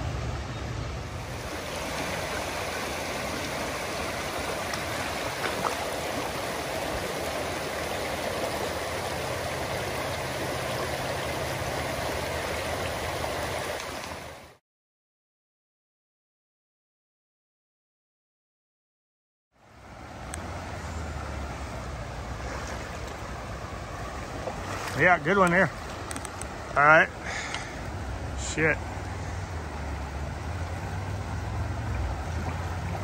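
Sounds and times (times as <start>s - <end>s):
creek water rushing over rocks: 0.0s - 14.6s, 19.6s - 33.0s.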